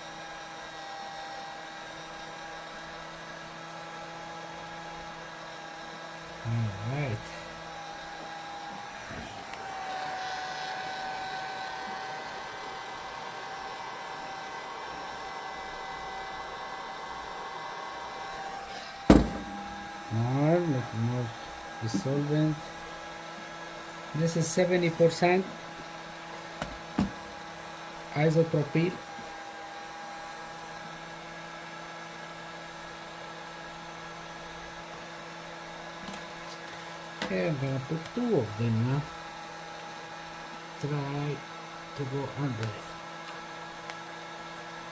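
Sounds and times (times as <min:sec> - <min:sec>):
hot-air blower running: 0:00.0 - 0:44.9.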